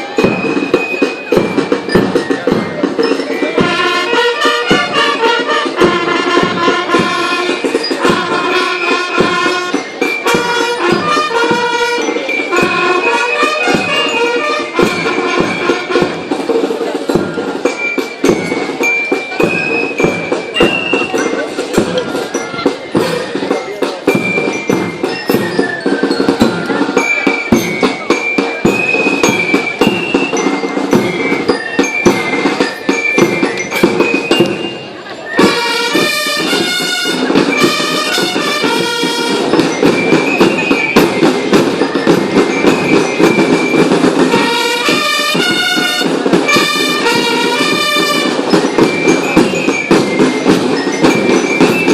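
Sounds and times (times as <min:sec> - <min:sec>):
loud music with dense percussion: 0:00.0 - 0:51.9.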